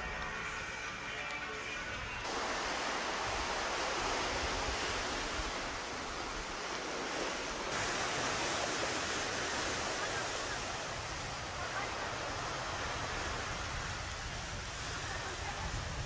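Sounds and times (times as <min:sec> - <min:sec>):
ocean surf: 0:02.2 - 0:16.0
wind buffeting microphone: 0:02.3 - 0:16.0.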